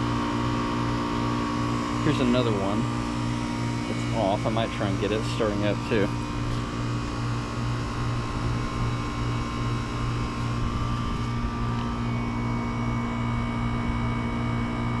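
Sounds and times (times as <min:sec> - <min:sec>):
compressor electrical hum: 0:00.0 - 0:15.0
condenser fan whoosh: 0:00.0 - 0:15.0
faint high whine: 0:01.6 - 0:15.0.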